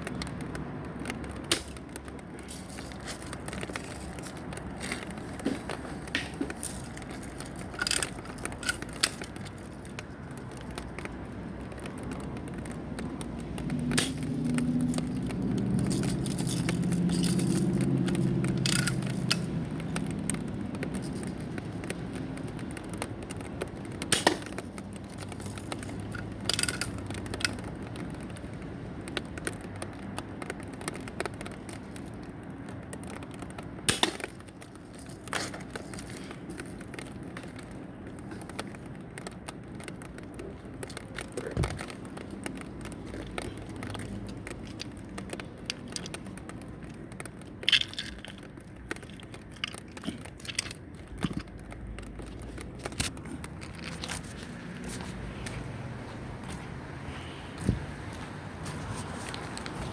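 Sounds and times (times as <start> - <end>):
sharp cracks and clicks: 6.0 - 54.1.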